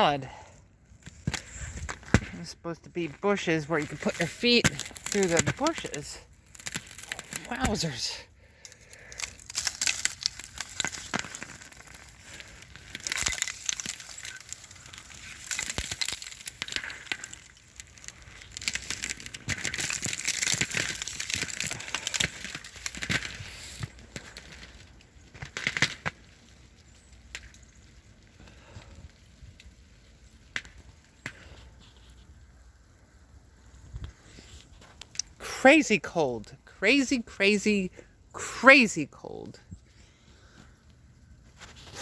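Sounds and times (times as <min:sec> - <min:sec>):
ice crust crunching underfoot: 0:00.9 - 0:42.0.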